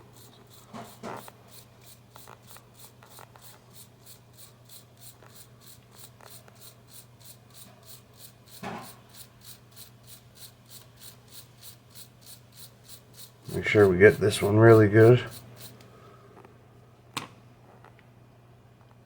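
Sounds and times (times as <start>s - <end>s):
rapid scrubbing on metal: 0.0s - 15.8s
steady low hum: 0.0s - 17.0s.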